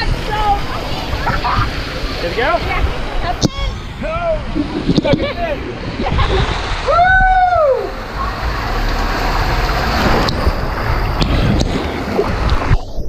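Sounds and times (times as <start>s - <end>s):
water rushing down a water slide: 0.0s - 13.0s.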